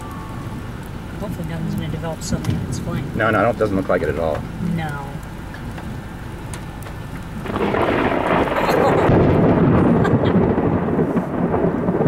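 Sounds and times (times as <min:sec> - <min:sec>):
rain falling: 0:00.0 - 0:12.0
thunder rumbling: 0:00.0 - 0:12.0.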